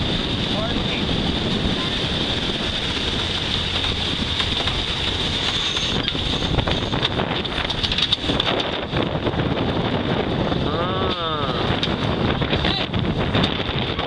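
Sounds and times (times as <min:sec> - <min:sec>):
water rushing past hull: 0:00.0 - 0:14.0
wind buffeting microphone: 0:00.0 - 0:14.0.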